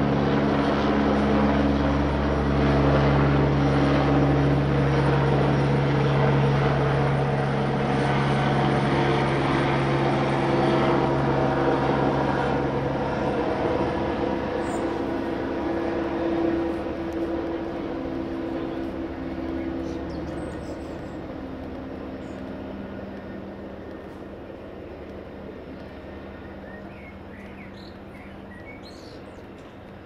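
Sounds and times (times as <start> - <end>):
aircraft engine drone overhead: 0.0 - 30.0.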